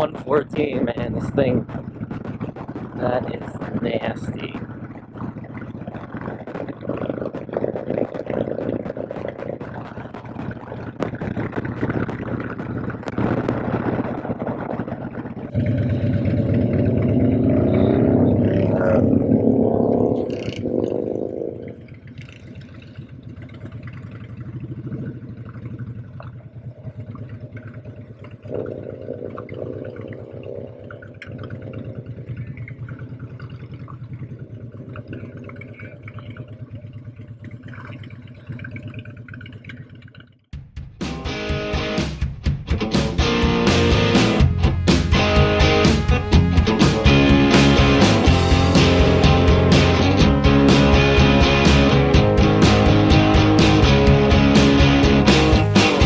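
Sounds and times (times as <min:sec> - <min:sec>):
motorcycle engine running: 0:00.0 - 0:39.2, 0:40.6 - 0:56.0.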